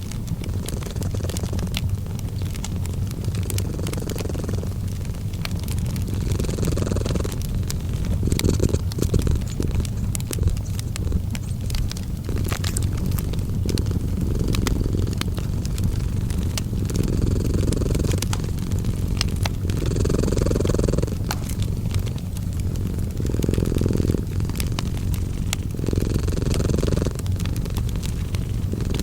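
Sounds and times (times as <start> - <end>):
cat purring: 0.0 - 29.0
fireplace crackling: 0.0 - 29.0.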